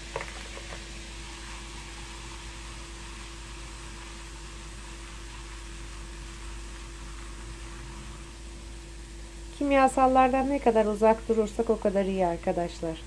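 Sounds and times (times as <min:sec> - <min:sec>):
fizzing hiss in hot water: 0:00.0 - 0:13.0
steady low hum: 0:00.0 - 0:13.0.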